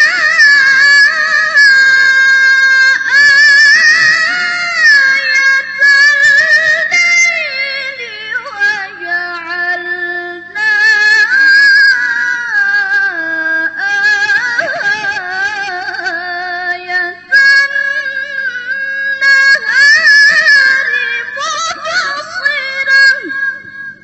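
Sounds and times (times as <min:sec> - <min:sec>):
woman reciting melodically: 0:00.0 - 0:24.0.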